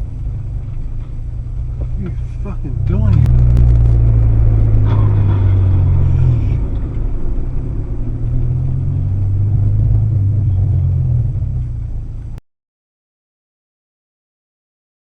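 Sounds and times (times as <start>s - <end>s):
car engine and road rumble: 0.0s - 12.4s.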